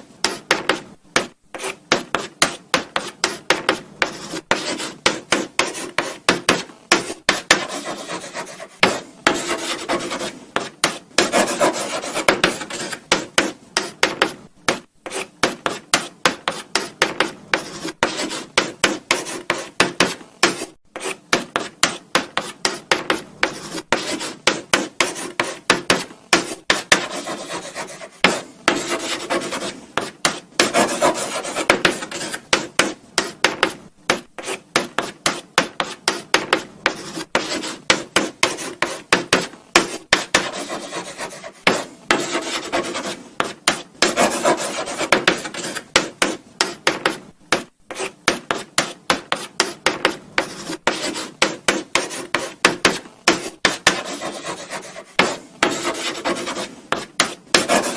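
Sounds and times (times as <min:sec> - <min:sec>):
chalk scratching on blackboard: 0:00.2 - 0:57.9.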